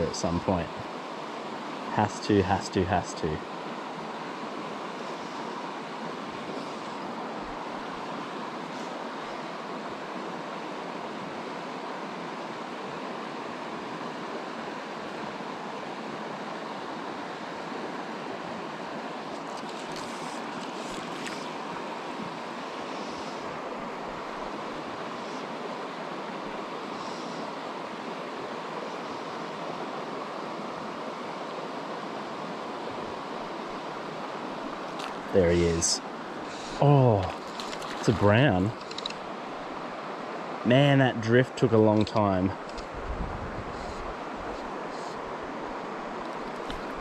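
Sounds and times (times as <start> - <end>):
river water rushing over rocks: 0.2 - 40.7, 44.1 - 47.0.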